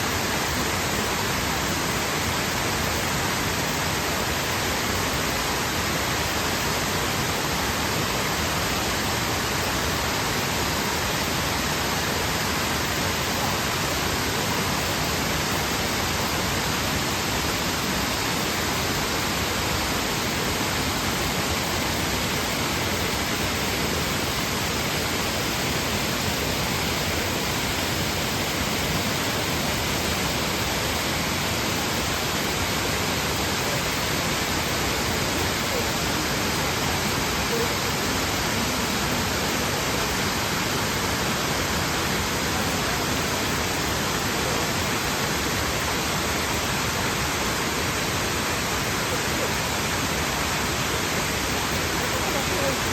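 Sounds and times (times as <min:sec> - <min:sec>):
waterfall pouring over rock: 0:00.0 - 0:52.9.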